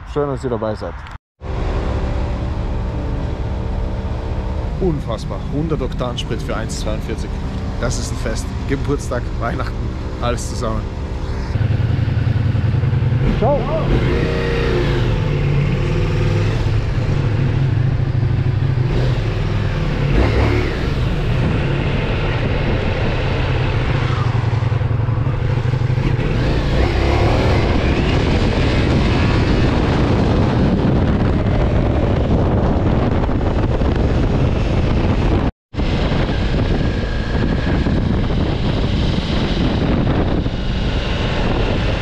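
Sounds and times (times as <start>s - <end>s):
motorcycle engine running: 1.4s - 42.0s.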